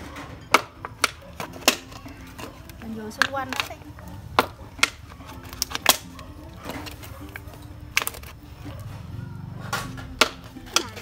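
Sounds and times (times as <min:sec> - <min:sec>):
plastic bottle crackling and popping: 0:00.0 - 0:08.8, 0:09.7 - 0:11.0.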